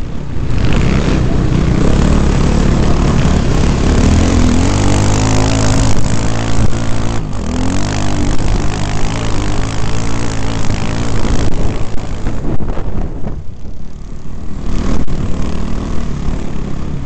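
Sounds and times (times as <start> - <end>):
loud rushing noise: 0.0 - 17.0
motorcycle engine under hard throttle: 0.0 - 17.0.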